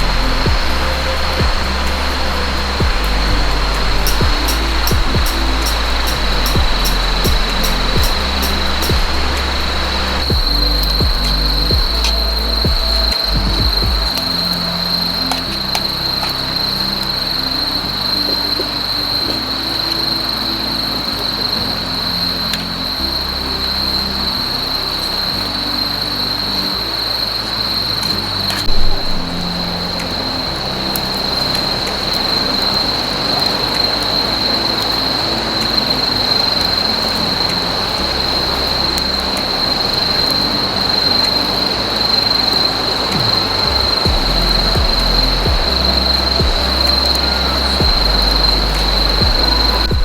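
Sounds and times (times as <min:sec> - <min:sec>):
background music with low notes: 0:00.0 - 0:50.0
steady high-pitched whine: 0:00.0 - 0:50.0.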